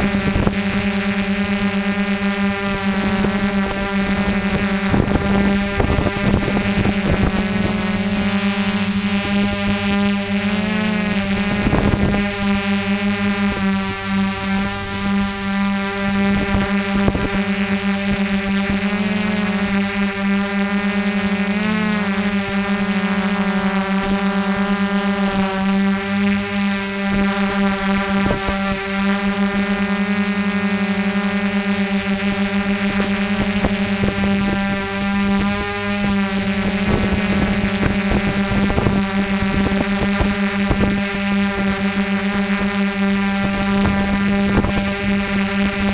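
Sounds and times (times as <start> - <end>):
drone propellers buzzing: 0.0 - 45.9
wind noise on microphone: 0.0 - 45.9.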